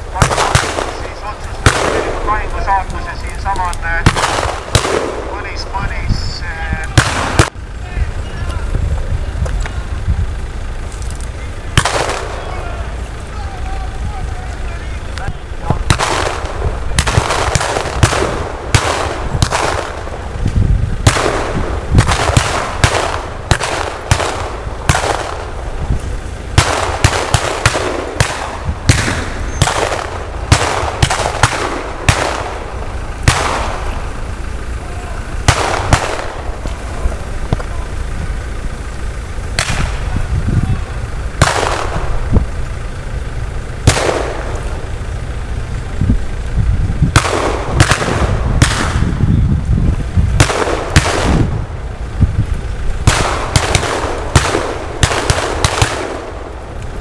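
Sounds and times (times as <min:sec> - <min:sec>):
rifles firing blanks: 0:00.0 - 0:46.4, 0:47.1 - 0:49.2, 0:50.3 - 0:51.8, 0:52.7 - 0:57.0
steady low rumble: 0:00.0 - 0:57.0.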